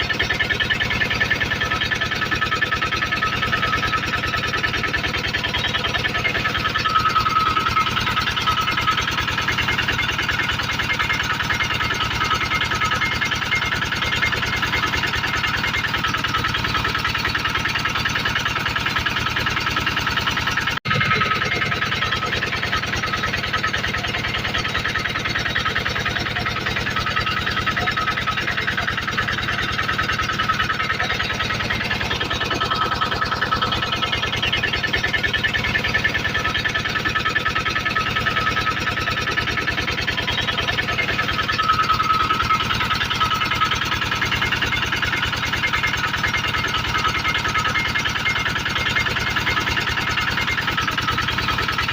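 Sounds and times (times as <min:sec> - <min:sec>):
generator engine running: 0:00.0 - 0:51.9.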